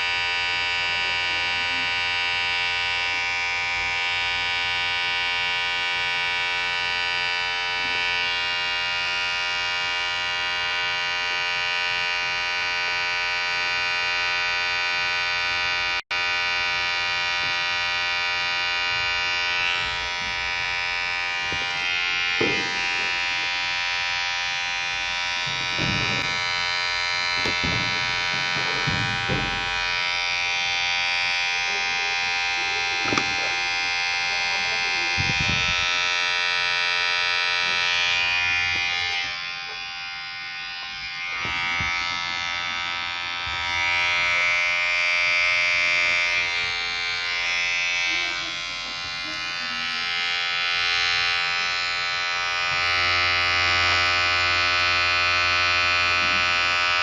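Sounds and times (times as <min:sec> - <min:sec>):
electric hair clipper buzzing: 0:00.0 - 0:57.0.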